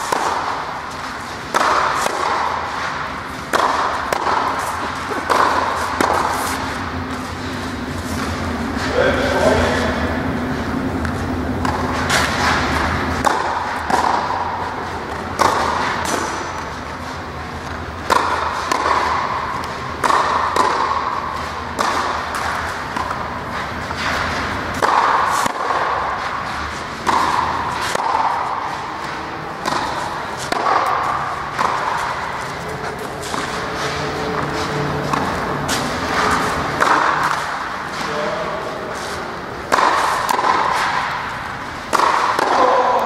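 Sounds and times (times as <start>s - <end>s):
tennis ball struck with racquet: 0.0s - 8.3s, 11.0s - 17.0s, 17.6s - 43.0s
tennis ball bouncing on court: 0.0s - 8.5s, 10.7s - 38.2s, 38.8s - 43.0s.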